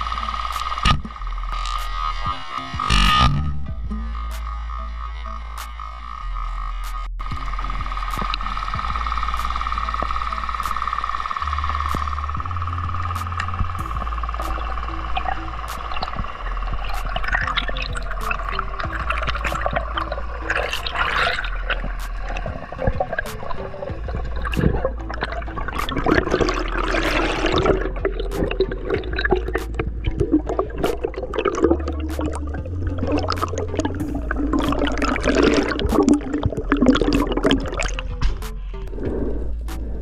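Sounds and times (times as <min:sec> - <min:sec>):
sharp clicks and crackles: 0:00.0 - 0:03.5, 0:06.8 - 0:38.6
water rushing and bubbling: 0:07.2 - 0:40.0.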